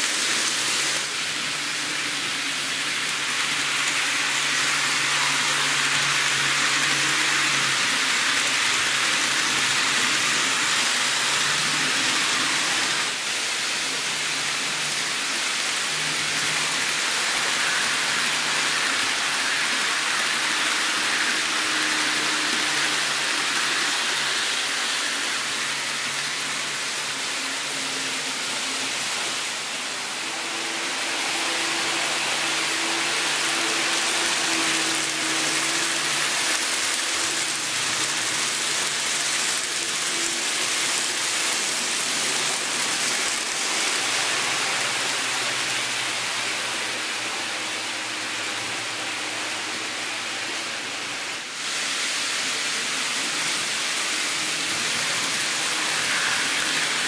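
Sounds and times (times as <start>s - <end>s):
model train wheels on rail: 0.0s - 57.0s.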